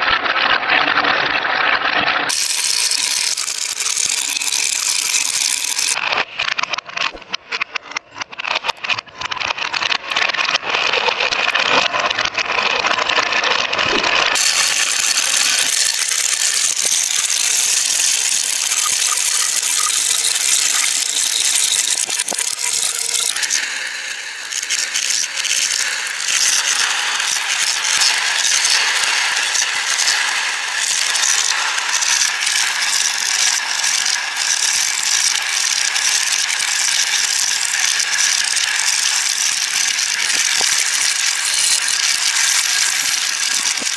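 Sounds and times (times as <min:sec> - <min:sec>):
marbles rolling and clicking: 0:00.0 - 0:43.9.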